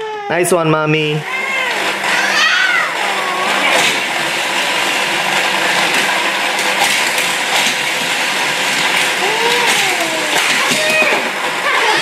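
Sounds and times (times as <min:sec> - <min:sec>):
toy car racetrack rattling: 0:01.3 - 0:12.0.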